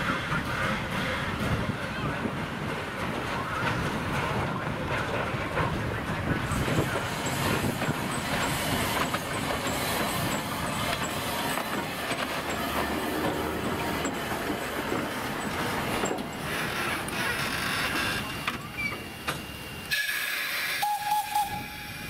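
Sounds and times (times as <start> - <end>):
steam locomotive rolling: 0.0 - 22.0.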